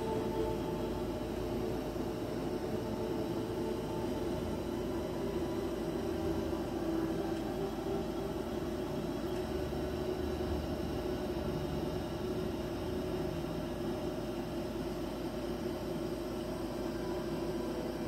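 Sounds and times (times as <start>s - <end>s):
low hum with held tones: 0.0s - 18.0s.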